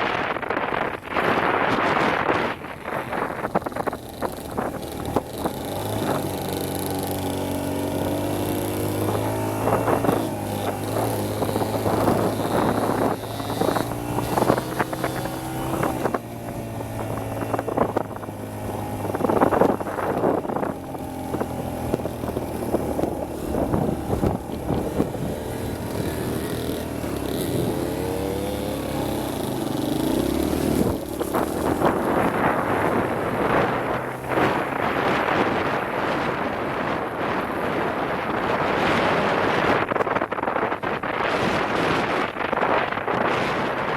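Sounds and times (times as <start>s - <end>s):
dirt bike engine running: 0.0s - 43.9s
wind buffeting microphone: 0.0s - 43.9s.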